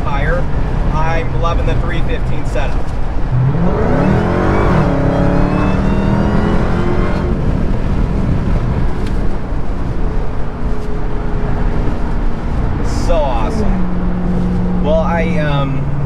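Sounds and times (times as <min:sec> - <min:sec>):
car engine accelerating: 0:00.0 - 0:16.0
road noise: 0:00.0 - 0:16.0.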